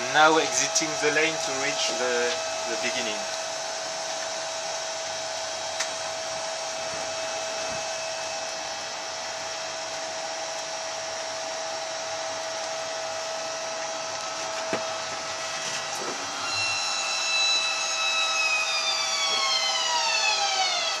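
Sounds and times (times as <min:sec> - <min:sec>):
electric drive hum and hiss: 0:00.0 - 0:21.0
falling multi-tone whine: 0:00.0 - 0:21.0.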